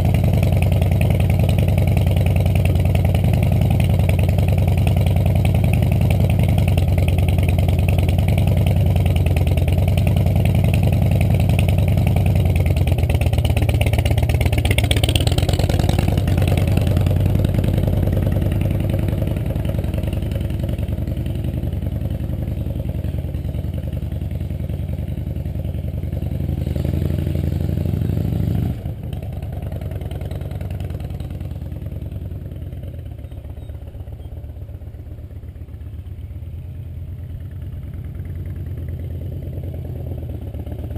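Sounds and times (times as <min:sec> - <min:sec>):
motorcycle engine running at low revs: 0:00.0 - 0:40.9.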